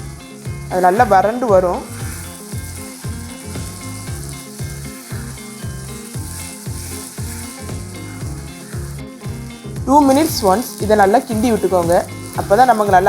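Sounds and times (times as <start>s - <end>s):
background music with beat: 0.0s - 13.0s
chicken sizzling in oil: 0.0s - 13.0s.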